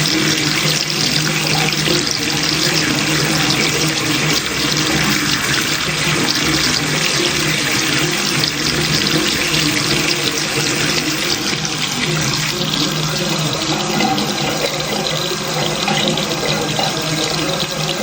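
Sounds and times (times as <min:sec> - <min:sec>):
tap water splashing into basin: 0:00.0 - 0:18.0.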